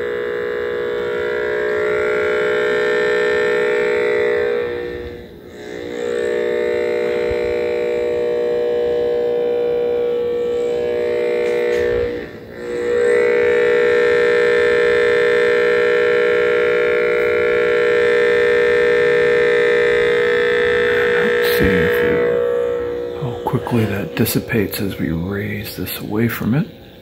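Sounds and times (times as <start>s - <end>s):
loud steady buzzing tone: 0.0s - 27.0s.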